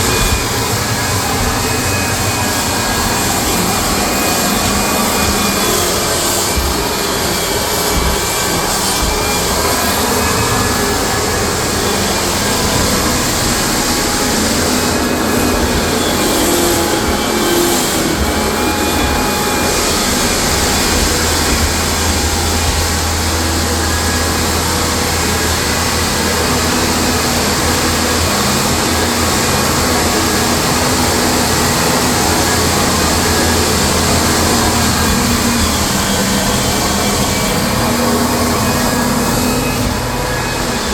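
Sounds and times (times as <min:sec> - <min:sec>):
floor sander running: 0:00.0 - 0:40.9.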